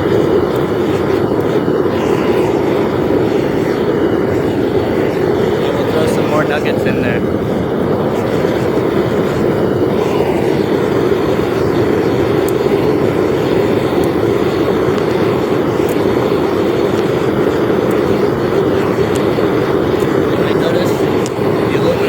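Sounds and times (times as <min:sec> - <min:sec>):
furnace burner flame rushing: 0:00.0 - 0:22.0.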